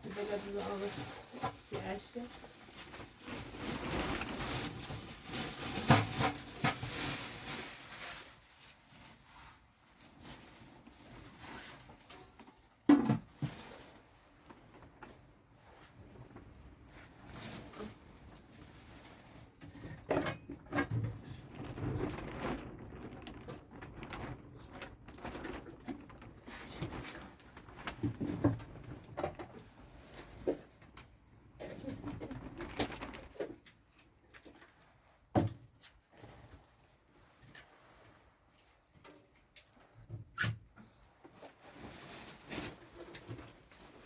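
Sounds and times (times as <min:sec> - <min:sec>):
objects shuffling and rustling: 0:00.0 - 0:44.0
rubbing and scraping handling noise: 0:00.0 - 0:44.0.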